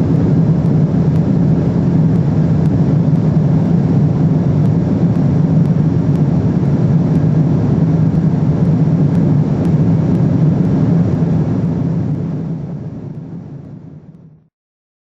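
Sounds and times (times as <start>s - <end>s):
rush of airflow: 0.0s - 14.4s
low drone of jet engines: 0.0s - 14.5s.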